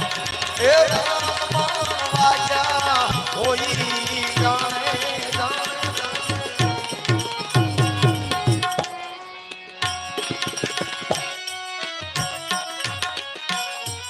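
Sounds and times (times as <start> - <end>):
tabla playing rhythmic pattern: 0.0 - 14.0.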